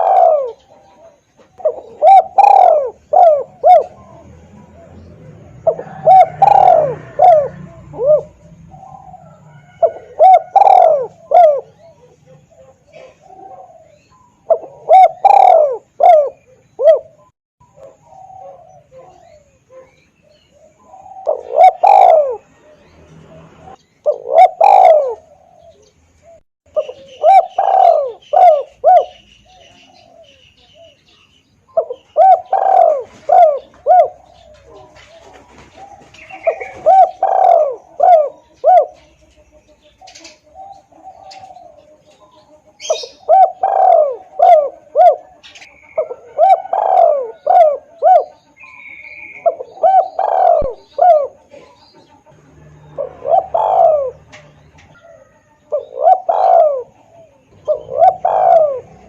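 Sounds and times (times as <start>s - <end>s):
dove cooing: 0.0s - 59.0s
small birds chirping: 0.0s - 59.0s.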